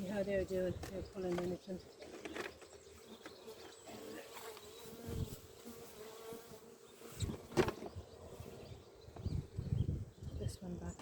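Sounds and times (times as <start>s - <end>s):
bees buzzing: 0.0s - 10.2s.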